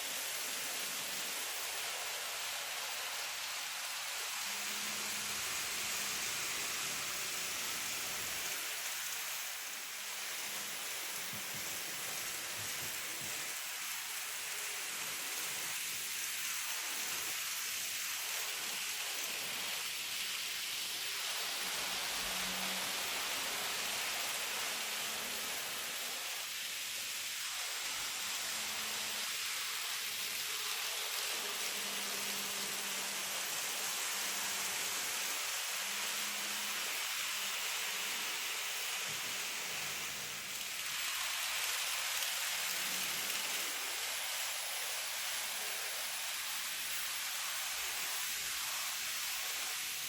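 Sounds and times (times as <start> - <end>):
model train wheels rolling: 0.0 - 50.0.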